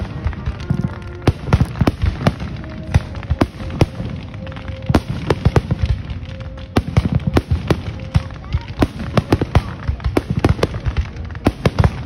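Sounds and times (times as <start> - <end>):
fireworks bangs and pops: 0.0 - 12.0
fireworks crackling: 0.0 - 12.0.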